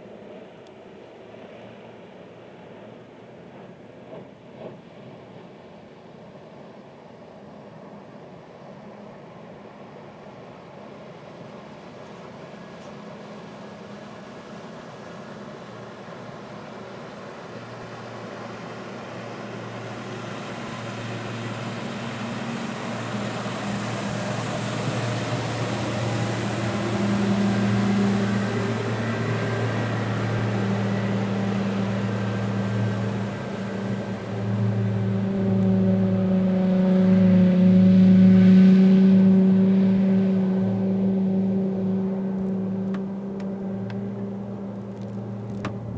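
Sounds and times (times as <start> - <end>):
outboard motor drone: 0.0 - 45.9.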